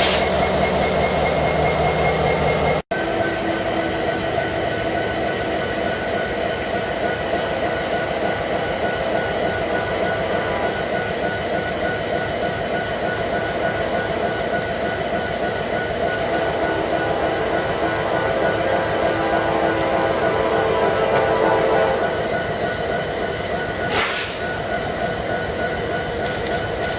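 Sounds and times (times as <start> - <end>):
freight train rolling past: 0.0 - 26.9
train wheels squealing: 0.0 - 26.9.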